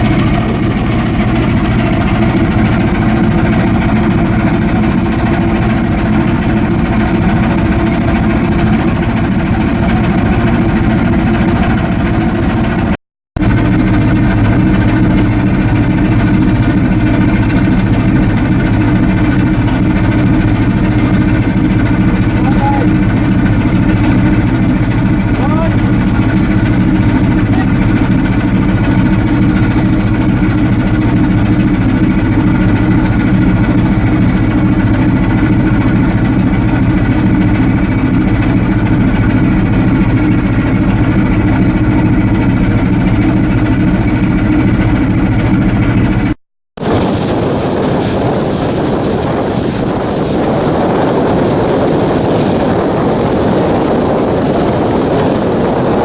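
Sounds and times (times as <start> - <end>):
ship diesel engine humming: 0.0 - 56.0
wind and water rushing: 0.0 - 56.0.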